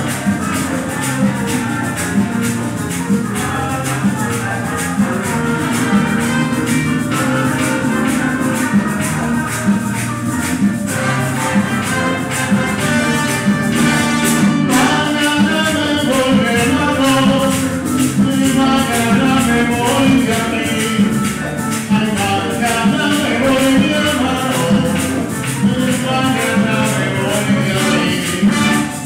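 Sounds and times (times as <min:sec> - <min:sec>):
maracas: 0:00.0 - 0:29.0
people singing: 0:00.0 - 0:29.0
steady percussion: 0:00.0 - 0:29.0
trombone: 0:00.0 - 0:29.0
trumpet: 0:00.0 - 0:29.0.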